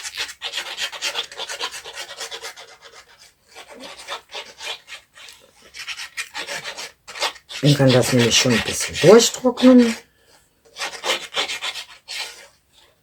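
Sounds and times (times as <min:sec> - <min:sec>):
hand rubbing scratchily: 0:00.0 - 0:10.0, 0:10.7 - 0:13.0.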